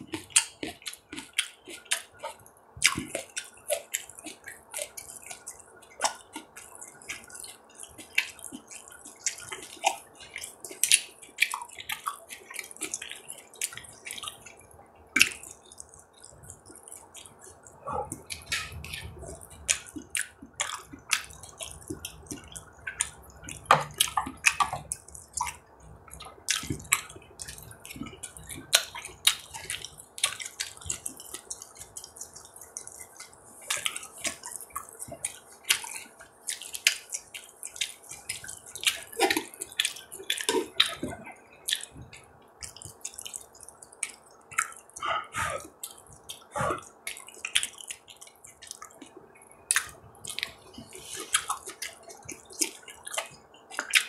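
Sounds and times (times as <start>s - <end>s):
wet chewing with mouth clicks: 0.0s - 54.0s.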